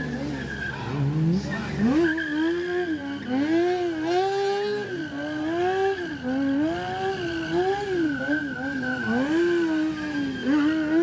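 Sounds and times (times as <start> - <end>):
car engine revving: 0.1 - 11.0
tyre squeal: 1.8 - 11.0.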